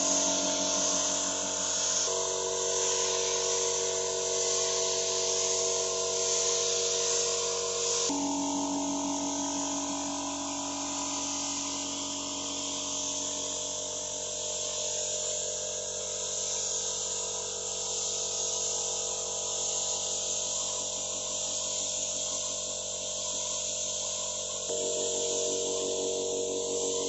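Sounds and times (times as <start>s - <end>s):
spray gun hissing: 0.0s - 15.4s, 16.0s - 27.0s.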